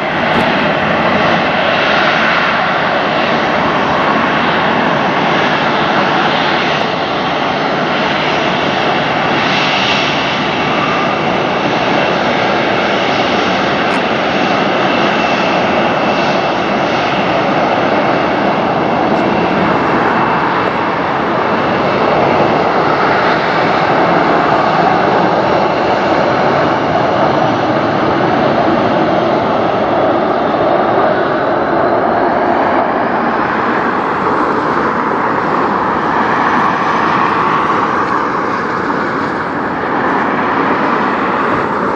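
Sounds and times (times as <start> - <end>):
jet engines roaring: 0.0 - 41.9.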